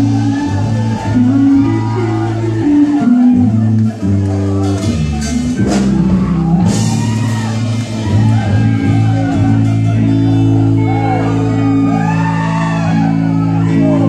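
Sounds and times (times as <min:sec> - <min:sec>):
band with guitar playing chords: 0:00.0 - 0:14.0
congregation shouting and singing: 0:00.0 - 0:14.0.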